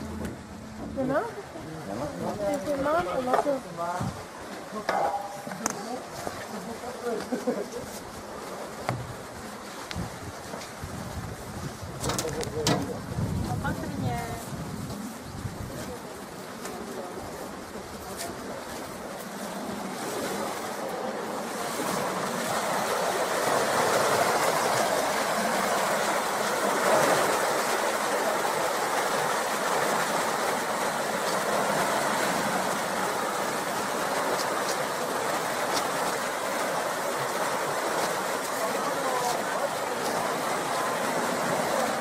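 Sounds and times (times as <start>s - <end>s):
water rushing through sluices: 0.0s - 42.0s.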